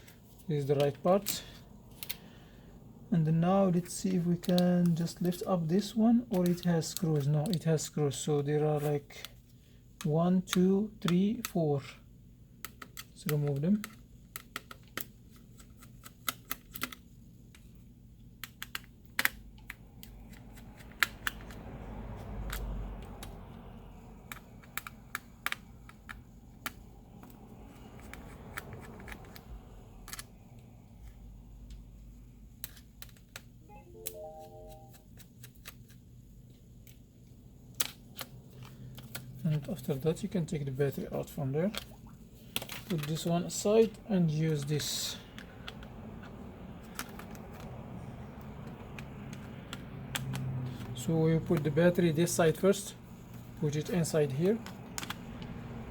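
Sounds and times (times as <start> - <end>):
low steady hum: 0.0 - 55.9.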